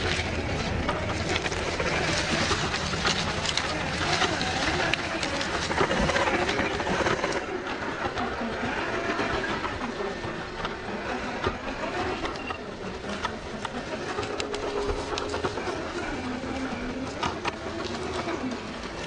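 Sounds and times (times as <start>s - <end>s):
electric motor whining: 0.0s - 19.0s
tyres crunching over dry leaves: 0.0s - 19.0s.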